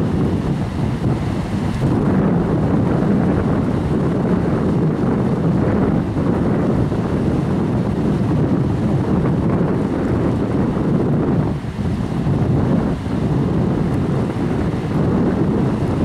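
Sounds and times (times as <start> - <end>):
fast-flowing river water: 0.0 - 16.0
wind buffeting microphone: 0.0 - 16.0.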